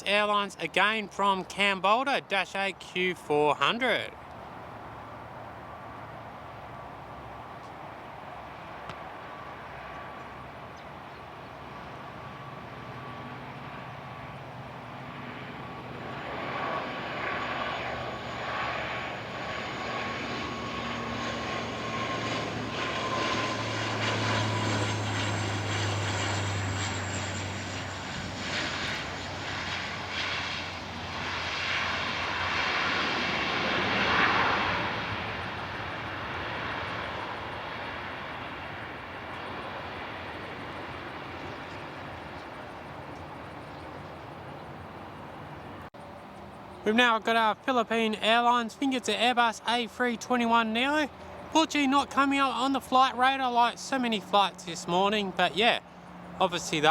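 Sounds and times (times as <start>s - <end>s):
turboprop plane droning past: 0.0s - 56.9s.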